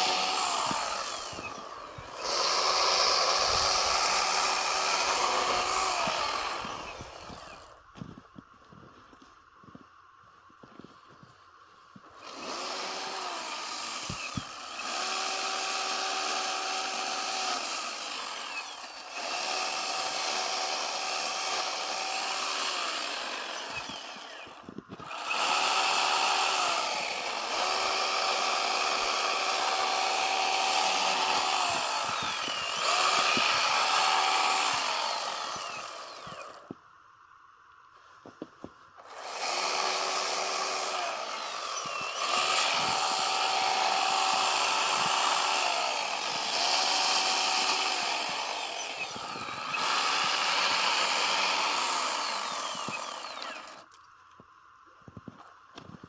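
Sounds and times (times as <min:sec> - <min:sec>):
chainsaw cutting snow: 0:00.0 - 0:09.8, 0:10.6 - 0:36.8, 0:38.3 - 0:54.1, 0:55.0 - 0:56.0.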